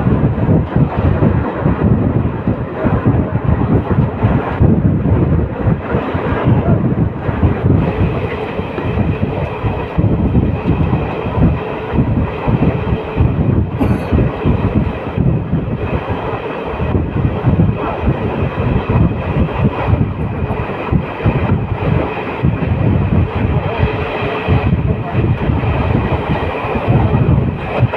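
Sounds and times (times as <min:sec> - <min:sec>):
train wheels rattling over rails: 0:00.0 - 0:27.9.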